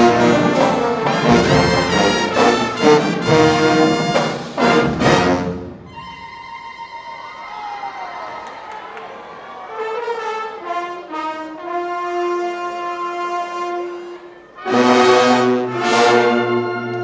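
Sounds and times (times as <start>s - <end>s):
marching band brass chords: 0.0s - 6.4s, 9.2s - 17.0s.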